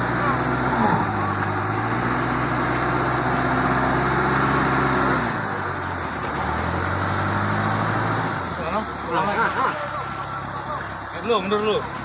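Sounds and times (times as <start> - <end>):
truck engine running under load: 0.0 - 12.0.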